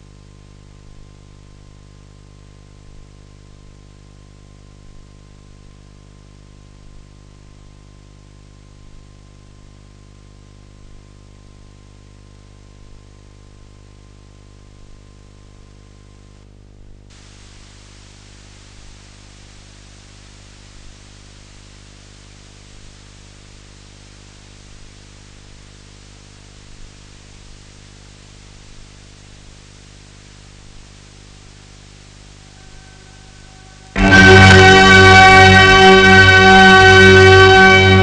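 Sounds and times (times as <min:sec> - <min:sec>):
low electrical hum: 0:00.0 - 0:38.0
tape hiss: 0:00.0 - 0:38.0.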